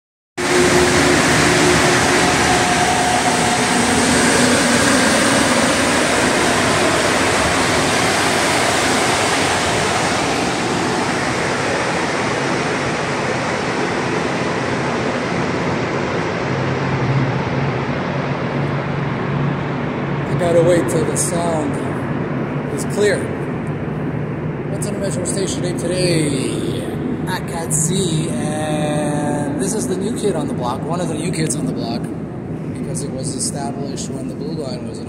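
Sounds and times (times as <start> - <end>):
metro train rushing: 0.4 - 35.0.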